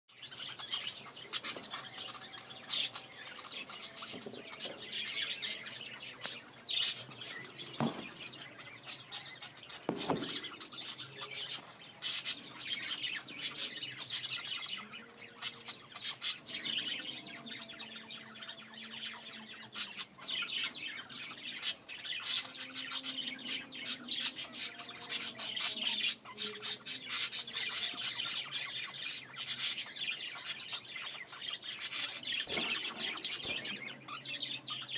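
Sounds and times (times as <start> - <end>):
budgerigars chattering and warbling: 0.2 - 34.9.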